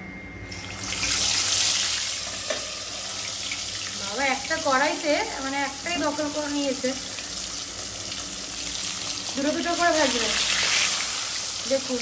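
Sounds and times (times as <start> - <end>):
fish sizzling in hot oil: 0.6 - 12.0.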